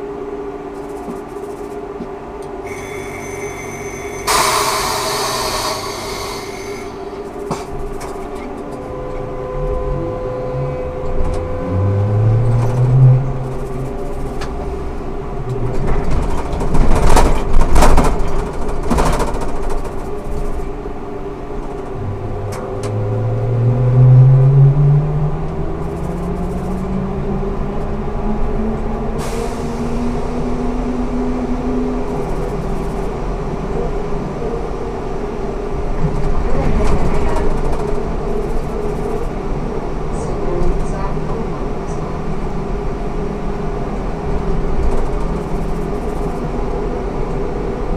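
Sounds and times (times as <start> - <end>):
trolleybus motor whine: 0.0 - 47.9.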